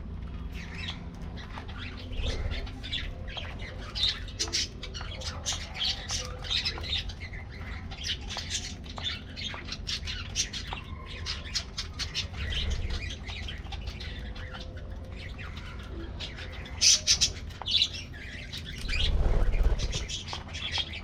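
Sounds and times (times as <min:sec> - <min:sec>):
low steady rumble: 0:00.0 - 0:21.0
budgerigars chattering and squawking: 0:00.4 - 0:21.0.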